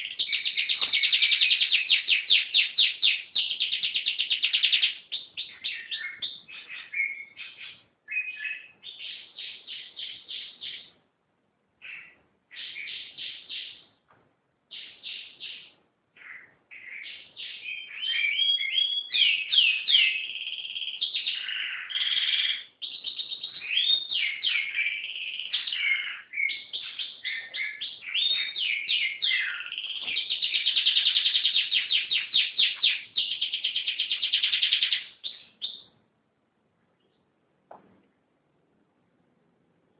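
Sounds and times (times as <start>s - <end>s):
canary singing: 0.0s - 11.0s, 11.8s - 13.9s, 14.7s - 36.0s.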